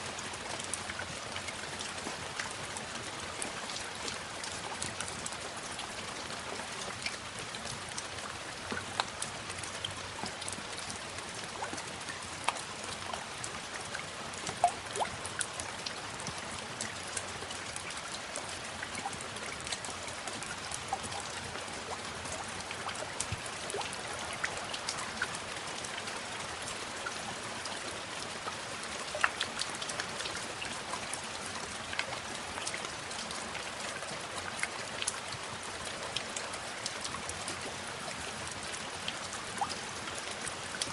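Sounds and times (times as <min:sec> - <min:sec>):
raindrops ticking: 0:00.0 - 0:40.9
steady rain: 0:00.0 - 0:40.9.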